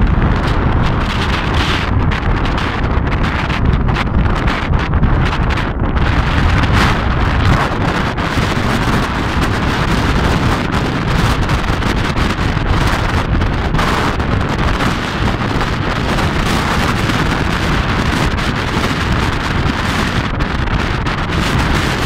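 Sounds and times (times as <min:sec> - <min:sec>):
heavy surf breaking: 0:00.0 - 0:22.0
wind buffeting microphone: 0:00.0 - 0:22.0.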